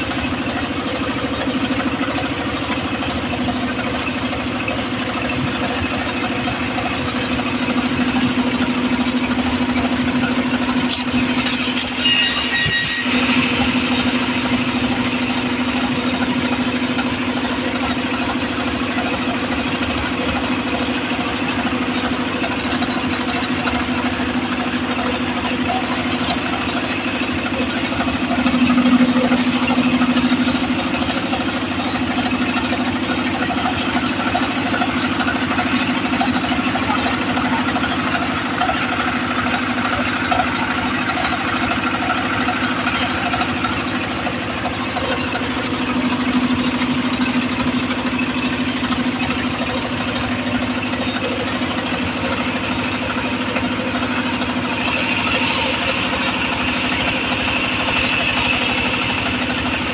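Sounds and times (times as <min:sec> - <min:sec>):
saw machine engine humming: 0:00.0 - 0:59.9.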